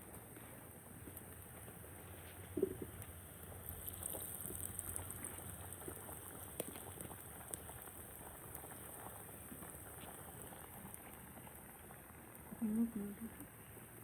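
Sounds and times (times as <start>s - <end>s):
food sizzling in a pot: 1.2s - 14.0s.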